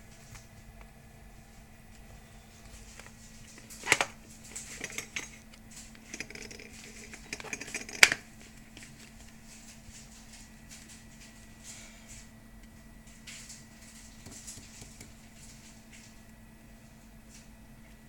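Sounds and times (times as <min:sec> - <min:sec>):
kitchen exhaust fan humming: 0:00.0 - 0:18.0.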